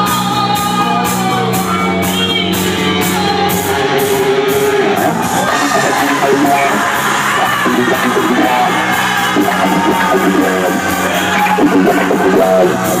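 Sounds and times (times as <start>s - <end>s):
crowd noise: 0.0s - 13.0s
live band music: 0.0s - 13.0s
person singing: 0.0s - 13.0s.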